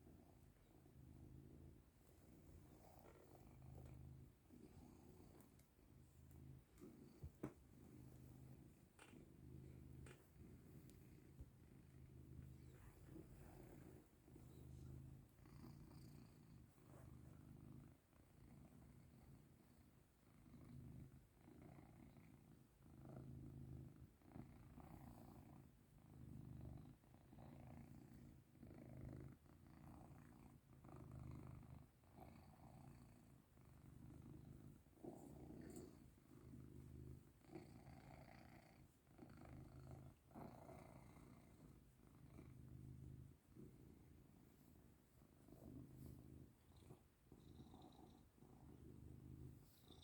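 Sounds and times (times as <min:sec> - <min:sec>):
cat purring: 0:00.0 - 0:50.0.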